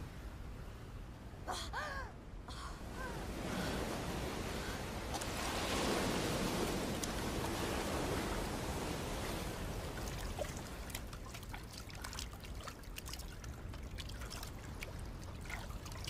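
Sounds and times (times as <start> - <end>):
sea water lapping: 2.8 - 16.0.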